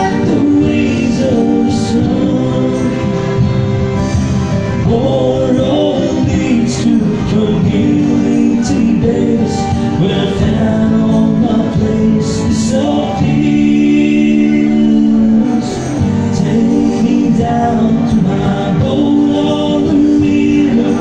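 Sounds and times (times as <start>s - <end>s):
man singing: 0.0s - 21.0s
strummed acoustic guitar: 0.0s - 21.0s.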